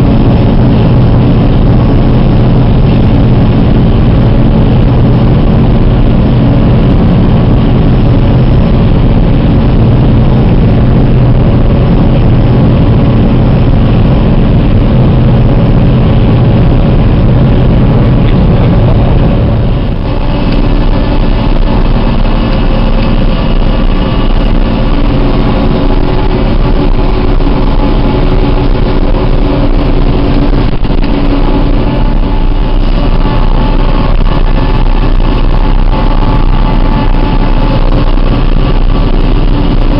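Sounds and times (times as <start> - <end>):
forage harvester engine and chopping: 0.0 - 39.9.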